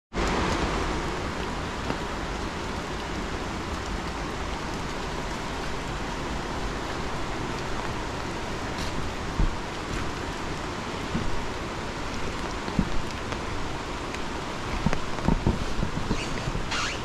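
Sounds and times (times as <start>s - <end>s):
water rushing: 0.1s - 17.0s.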